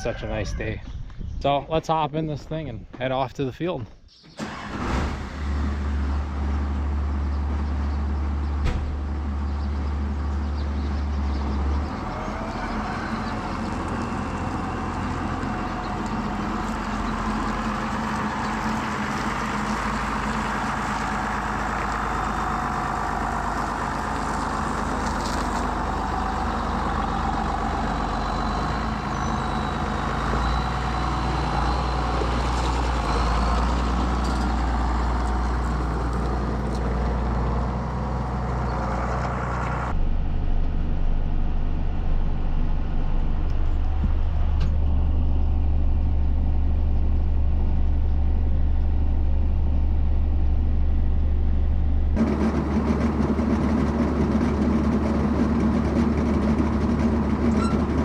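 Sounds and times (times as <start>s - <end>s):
tractor diesel engine running: 4.4s - 58.0s.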